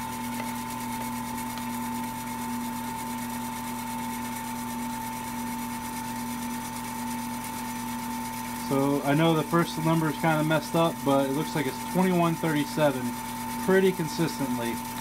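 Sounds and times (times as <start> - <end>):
wood lathe motor hum and whine: 0.0 - 15.0.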